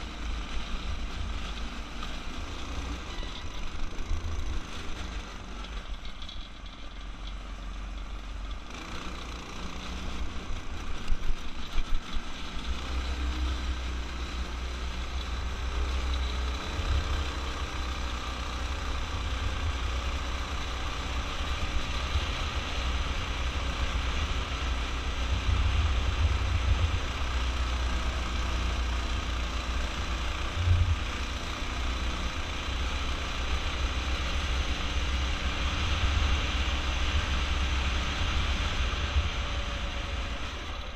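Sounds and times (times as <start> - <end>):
go-kart engine under throttle: 0.0 - 40.9.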